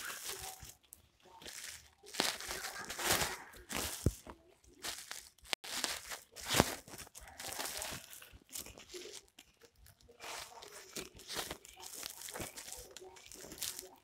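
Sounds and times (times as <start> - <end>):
needle and twine scraping sack: 0.0 - 14.0
plastic sack rustling and crinkling: 0.0 - 14.0.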